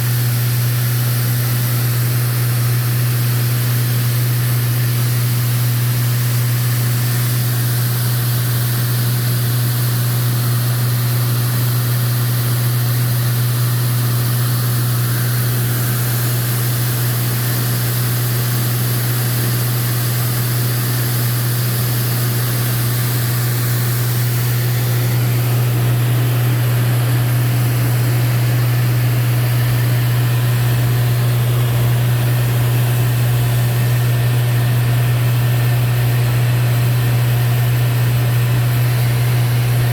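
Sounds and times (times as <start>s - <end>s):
airflow rushing hiss: 0.0s - 35.3s, 38.4s - 39.9s
aircraft engine and propeller hum: 0.0s - 39.9s.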